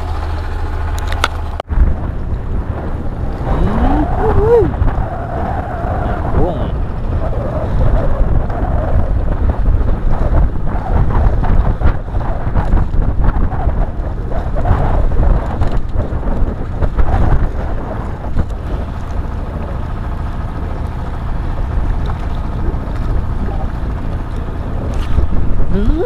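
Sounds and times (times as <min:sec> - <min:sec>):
choppy sea water: 0:00.0 - 0:26.0
wind buffeting microphone: 0:00.0 - 0:26.0.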